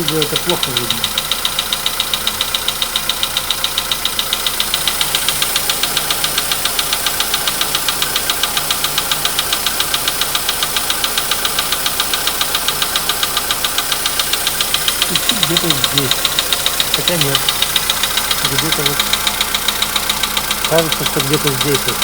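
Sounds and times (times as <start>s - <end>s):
car engine idling: 0.0s - 22.0s
metallic engine knock: 0.0s - 22.0s.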